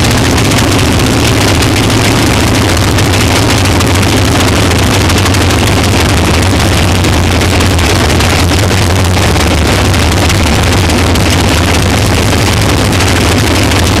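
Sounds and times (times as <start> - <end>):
race car engine running: 0.0 - 14.0
wide noisy rush: 0.0 - 14.0.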